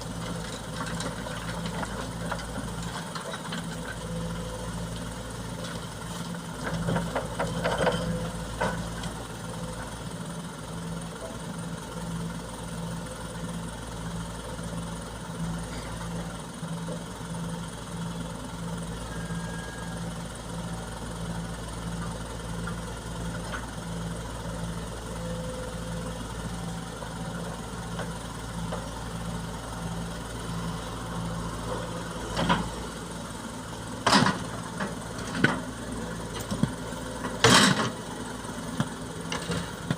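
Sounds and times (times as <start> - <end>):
heavy diesel engine idling: 0.0 - 39.9.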